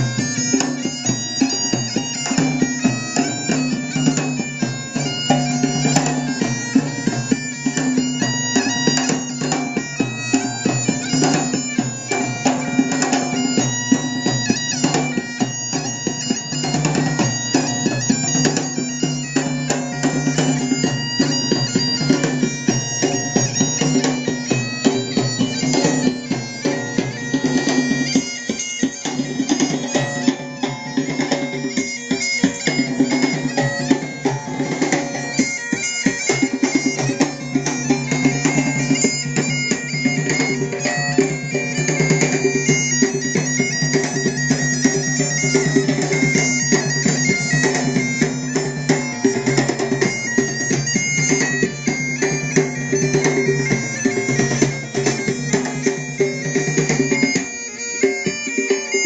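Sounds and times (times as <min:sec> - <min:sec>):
bagpipes playing a melody: 0:00.0 - 0:59.0
drums beating: 0:00.0 - 0:59.0.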